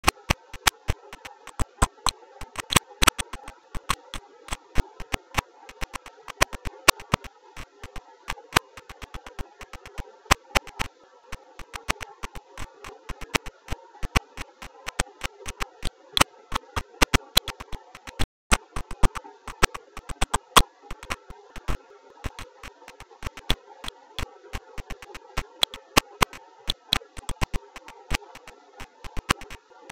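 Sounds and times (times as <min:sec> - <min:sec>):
faint steady hum: 0:00.0 - 0:29.9
rapid sharp clicks: 0:00.0 - 0:29.9.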